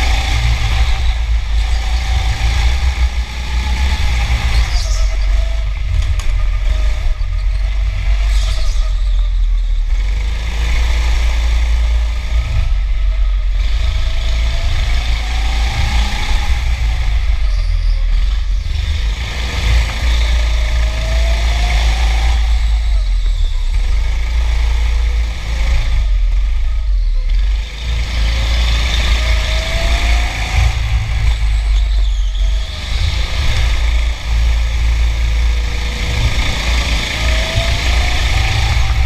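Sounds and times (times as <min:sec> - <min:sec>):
go-kart motor accelerating: 0:00.0 - 0:39.0
low rumble of vibration and buffeting: 0:00.0 - 0:39.0.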